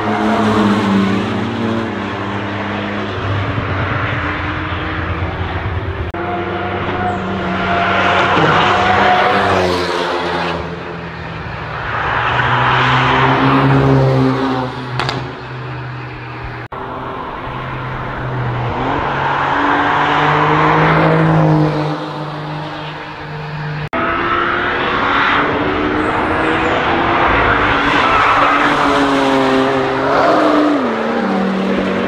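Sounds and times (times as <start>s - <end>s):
race cars passing: 0.0s - 32.0s
tyre and road noise: 0.0s - 32.0s.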